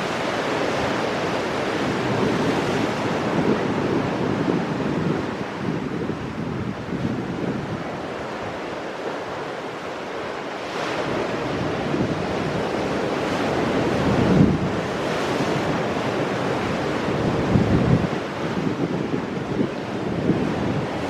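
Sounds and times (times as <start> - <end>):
wind buffeting microphone: 0.0 - 9.3, 10.9 - 21.0.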